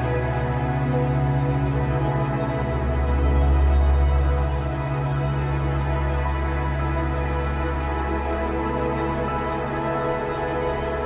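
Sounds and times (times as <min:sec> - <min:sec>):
background music with low notes: 0:00.0 - 0:11.0.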